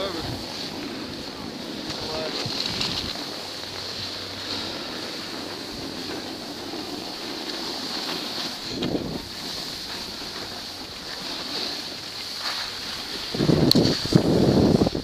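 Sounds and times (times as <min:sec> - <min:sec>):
hiss of sliding over snow: 0:00.0 - 0:15.0
wind rushing over microphone: 0:00.0 - 0:15.0.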